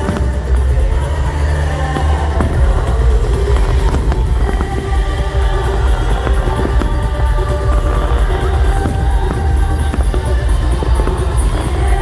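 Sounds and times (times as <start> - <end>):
loud music with pulsing bass: 0.0 - 12.0.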